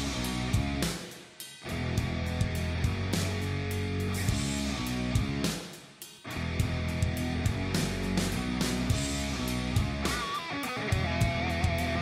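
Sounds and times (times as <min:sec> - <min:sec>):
drum beat: 0:00.0 - 0:03.4, 0:04.3 - 0:12.0
rock music with electric guitar: 0:00.0 - 0:12.0.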